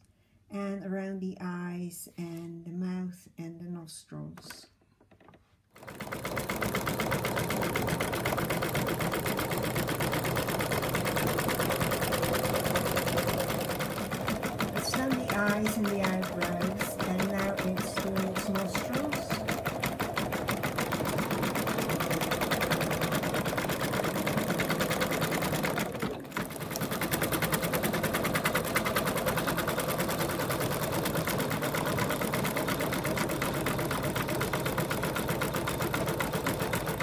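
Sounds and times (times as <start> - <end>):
embroidery machine stitching: 5.1 - 37.0.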